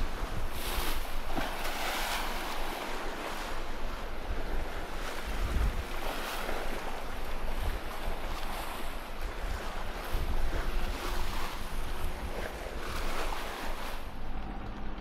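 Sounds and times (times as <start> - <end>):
sea splashing past hull: 0.0 - 14.4
wind buffeting microphone: 0.0 - 15.0.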